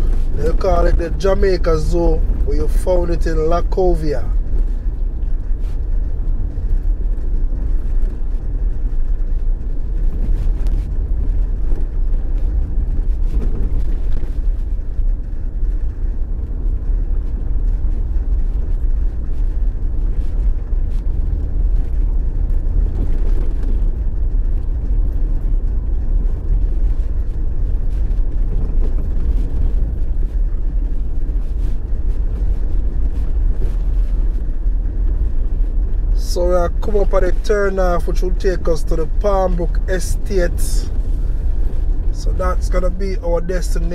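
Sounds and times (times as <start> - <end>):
road vehicle rumble: 0.0 - 43.9.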